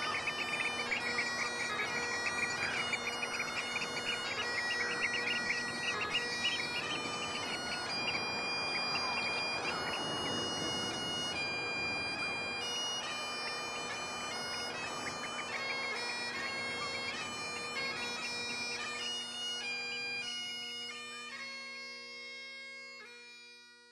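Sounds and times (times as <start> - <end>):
bagpipe music: 0.0 - 23.9.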